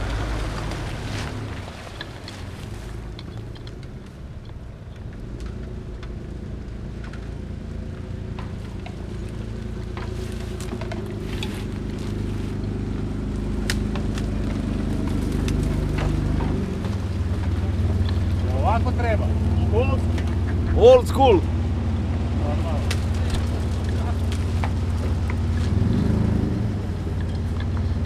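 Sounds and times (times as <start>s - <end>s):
off-road vehicle engines: 0.0s - 28.0s.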